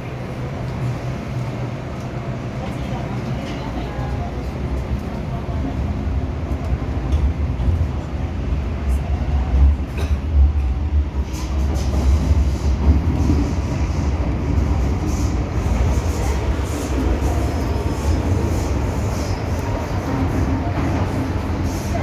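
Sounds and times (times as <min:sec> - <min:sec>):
train rumbling in tunnel: 0:00.0 - 0:22.0.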